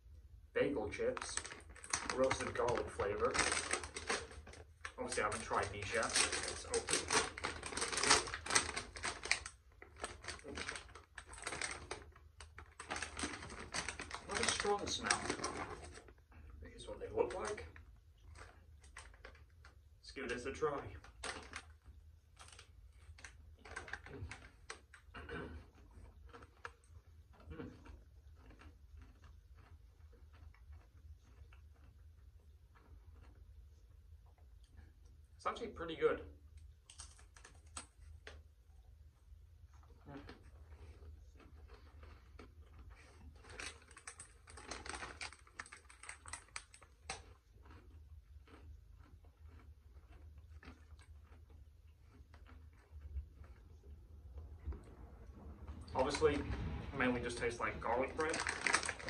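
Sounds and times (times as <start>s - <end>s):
crunchy chip being chewed: 0.9s - 35.2s, 36.6s - 38.5s, 39.7s - 55.0s, 55.7s - 59.0s.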